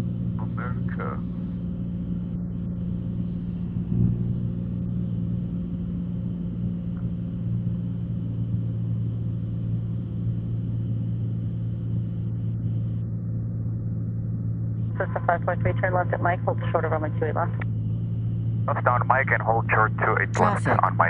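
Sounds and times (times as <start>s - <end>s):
propeller plane engine droning: 0.0s - 21.0s.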